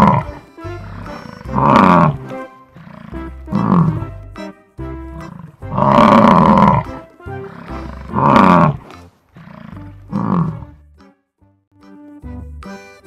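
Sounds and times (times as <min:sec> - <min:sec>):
bison bellowing: 0:00.0 - 0:10.8
background music: 0:00.0 - 0:13.0.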